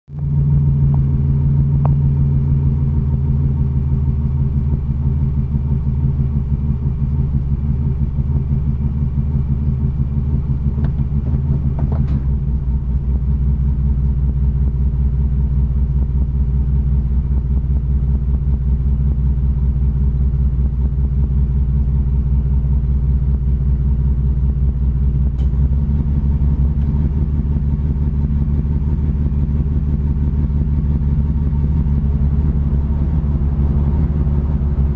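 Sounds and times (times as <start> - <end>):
car engine idling roughly: 0.2 - 34.9.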